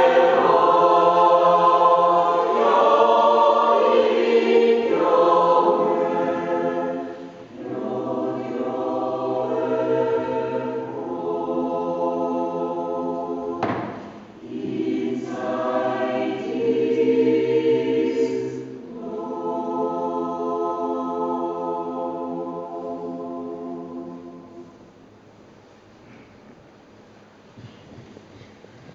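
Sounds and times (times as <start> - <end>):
mixed choir yodelling: 0.0 - 13.7, 14.4 - 24.8.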